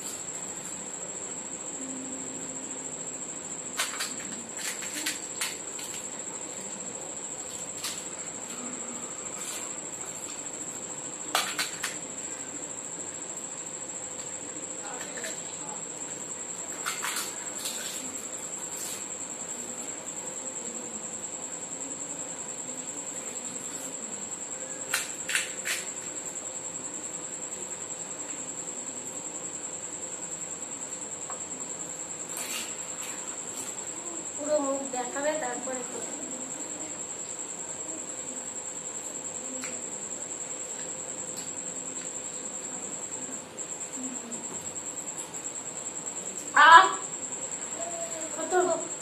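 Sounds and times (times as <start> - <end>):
cricket trilling: 0.0 - 49.0.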